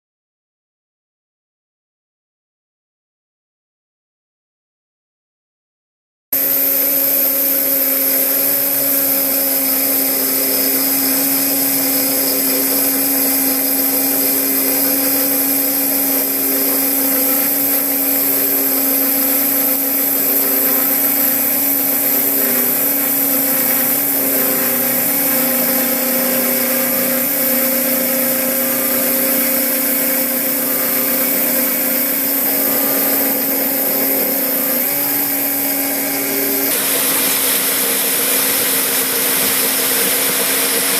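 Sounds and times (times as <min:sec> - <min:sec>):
milling machine whine: 0:06.4 - 0:40.9.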